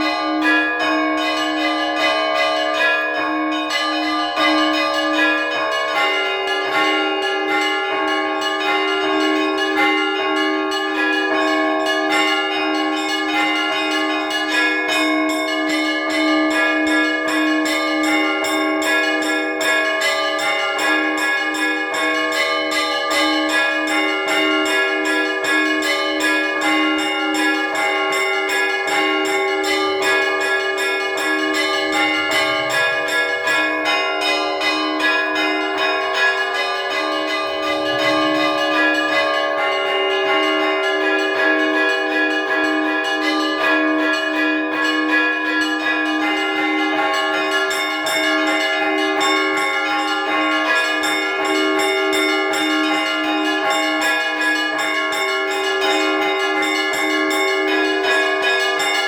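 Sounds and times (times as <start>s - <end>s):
low church bell strikes: 0.0s - 59.0s
small church bells ringing fast: 0.0s - 59.0s.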